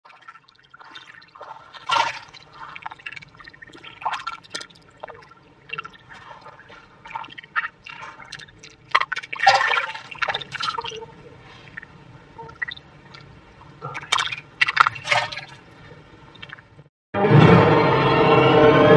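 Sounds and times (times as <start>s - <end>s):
fish splashing in water and mud: 0.0s - 16.9s.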